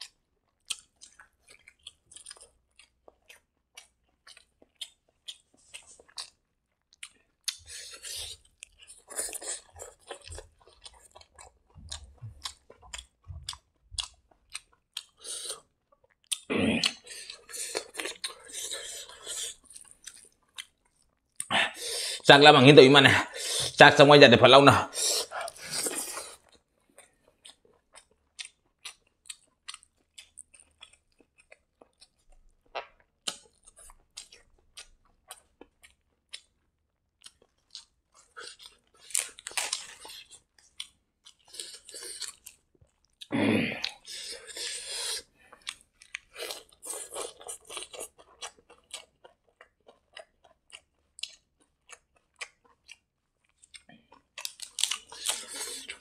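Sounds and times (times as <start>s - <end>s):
chewing and lip smacking: 0.0s - 21.5s, 25.1s - 56.0s.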